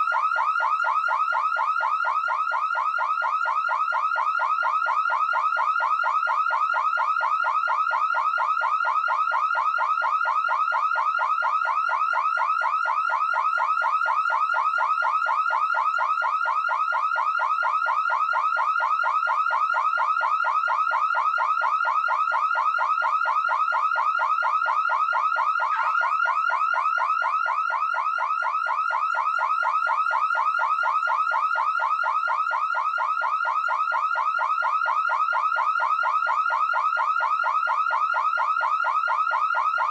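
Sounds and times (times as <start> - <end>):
electronic alarm siren sweeping: 0.0 - 39.9.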